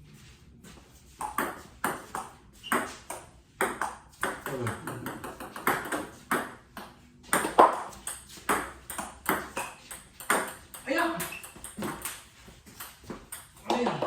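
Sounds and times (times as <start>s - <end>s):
ping-pong ball hitting paddles and table: 1.1s - 14.0s.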